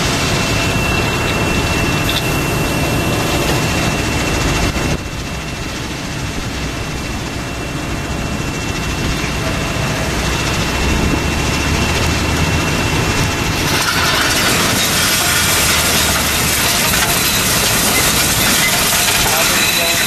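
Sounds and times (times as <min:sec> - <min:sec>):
conveyor running: 0:00.0 - 0:20.0
thin high whine: 0:00.0 - 0:20.0
truck engine running: 0:00.0 - 0:20.0.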